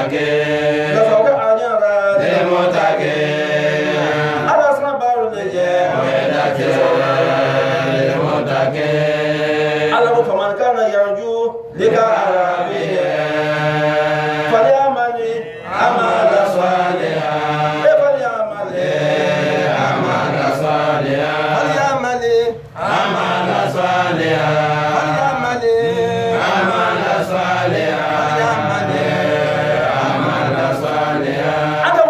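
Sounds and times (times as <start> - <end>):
man chanting: 0.0 - 8.9, 9.8 - 13.3, 14.3 - 32.0.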